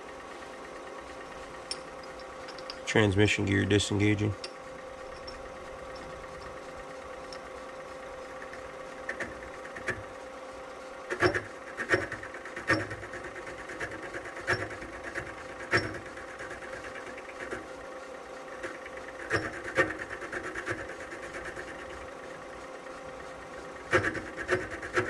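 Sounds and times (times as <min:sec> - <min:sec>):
lathe motor and gear hum: 0:00.0 - 0:25.0.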